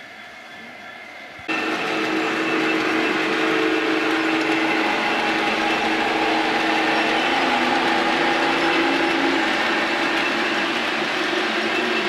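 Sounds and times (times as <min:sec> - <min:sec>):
model locomotive engine drone: 0:00.0 - 0:12.0
wheels on rails: 0:01.4 - 0:12.0.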